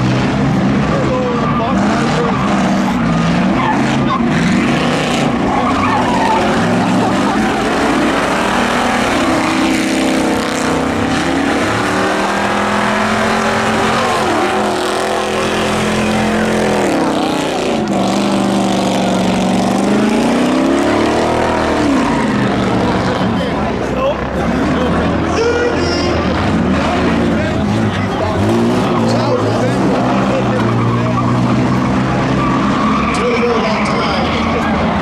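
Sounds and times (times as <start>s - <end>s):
race car engines running hard: 0.0s - 35.0s.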